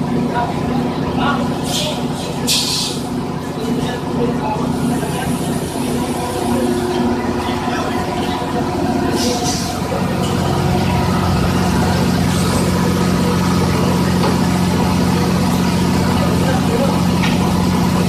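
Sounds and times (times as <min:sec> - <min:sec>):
machinery drone: 0:00.0 - 0:18.0.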